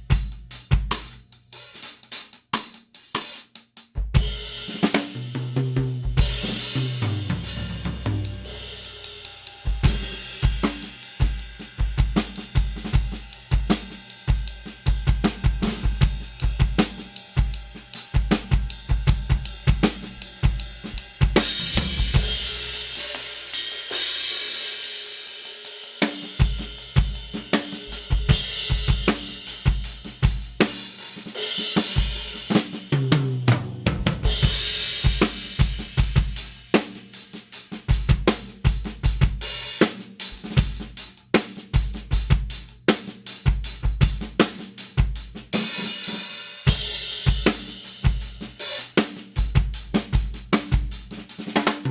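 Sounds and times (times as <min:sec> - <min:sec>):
kick and snare drum groove: 0:00.0 - 0:24.2, 0:26.0 - 0:51.9
hi-hat and ride cymbal: 0:00.0 - 0:33.1, 0:34.2 - 0:51.9.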